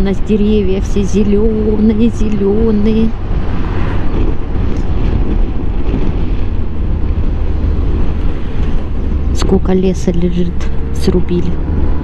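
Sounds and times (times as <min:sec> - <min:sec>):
road noise: 0:00.0 - 0:12.0
wind: 0:00.0 - 0:12.0.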